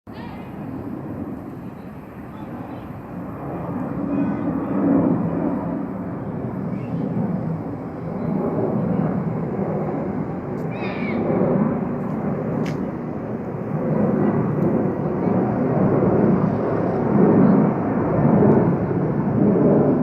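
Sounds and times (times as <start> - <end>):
jet engines rumbling at takeoff: 0.1 - 20.0.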